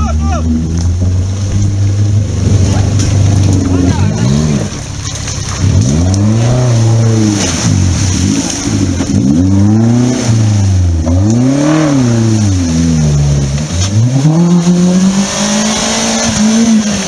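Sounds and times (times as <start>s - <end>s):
car engine revving hard: 0.0s - 17.0s
water and mud splashing: 0.2s - 17.0s
wheels spinning in mud: 0.7s - 17.0s.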